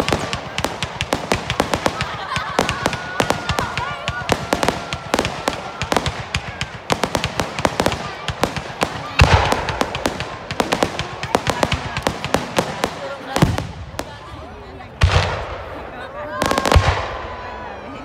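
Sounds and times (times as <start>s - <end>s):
fireworks popping and banging: 0.0s - 17.3s.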